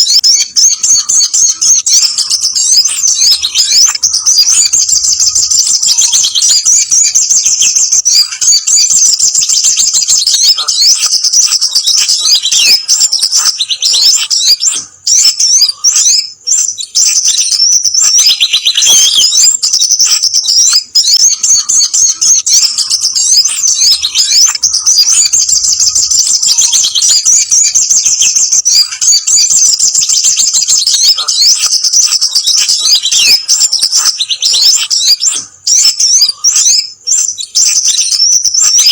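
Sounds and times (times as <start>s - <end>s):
sunbirds chattering: 0.0s - 38.9s.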